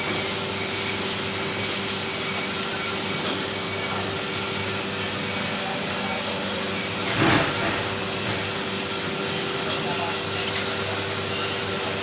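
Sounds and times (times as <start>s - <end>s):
machinery humming and hissing: 0.0s - 12.0s.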